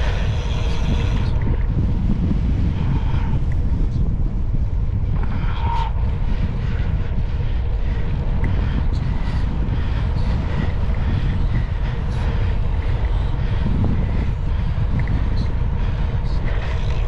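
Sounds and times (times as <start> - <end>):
bicycle riding noise: 0.0 - 17.0
wind buffeting microphone: 0.0 - 17.0.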